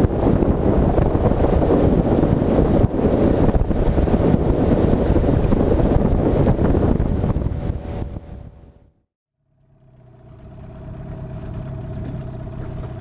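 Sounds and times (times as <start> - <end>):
wind rumble on microphone: 0.0 - 9.0, 10.3 - 13.0
motorboat roar: 0.0 - 13.0.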